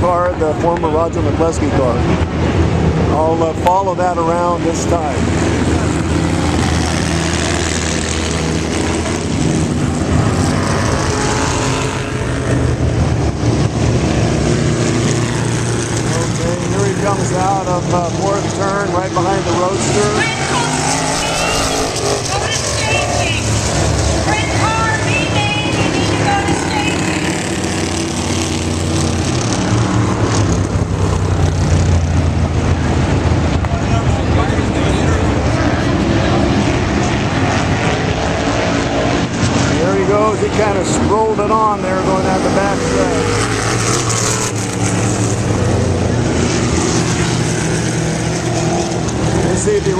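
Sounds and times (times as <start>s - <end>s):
race car engines running: 0.0s - 49.9s.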